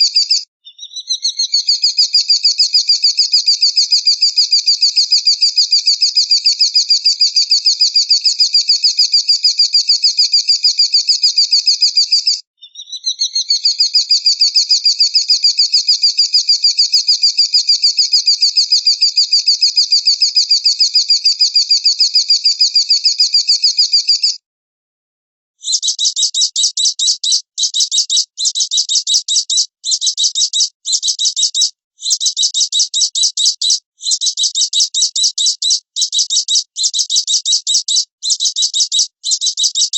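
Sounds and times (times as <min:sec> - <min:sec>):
songbird high-pitched trill: 0:00.0 - 0:24.4, 0:25.6 - 0:39.9.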